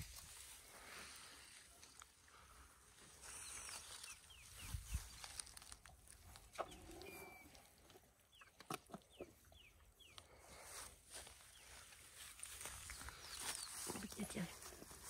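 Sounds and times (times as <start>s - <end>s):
dry grass crackling: 0.0s - 7.4s, 10.1s - 15.0s.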